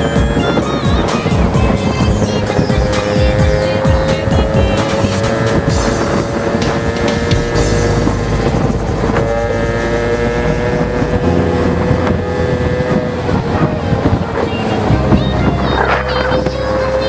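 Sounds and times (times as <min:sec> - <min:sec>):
two-stroke scooter engine revving: 0:00.0 - 0:17.0
wind noise on microphone: 0:00.0 - 0:17.0.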